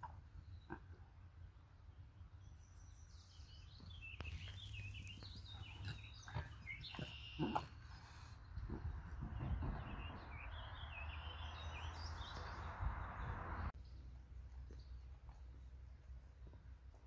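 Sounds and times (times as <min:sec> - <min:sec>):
birds chirping: 0:00.4 - 0:15.8.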